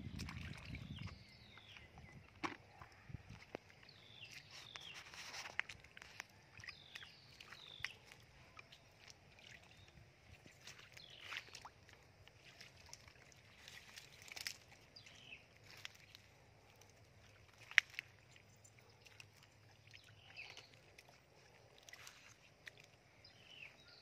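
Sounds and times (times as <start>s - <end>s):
footsteps in shallow water: 0.0s - 24.0s.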